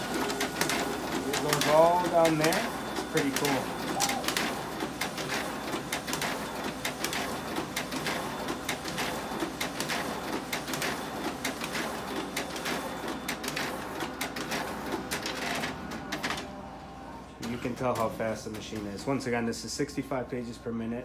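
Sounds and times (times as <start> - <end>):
paper feed clicks: 0.0 - 16.5, 17.4 - 19.2
copier whirring: 0.0 - 21.0.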